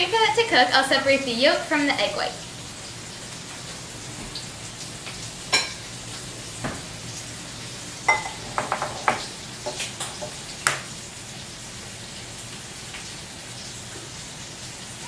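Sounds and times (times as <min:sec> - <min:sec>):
bacon sizzling in a pan: 0:00.0 - 0:15.0.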